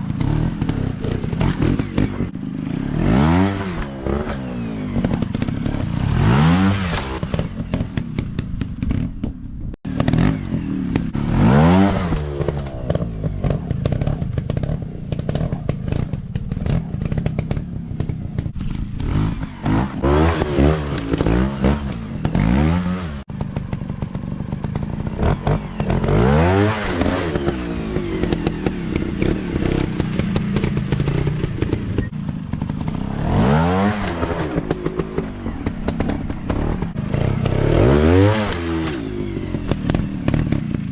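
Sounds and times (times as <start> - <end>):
dirt-bike engines revving: 0.0 - 8.8, 9.9 - 40.9.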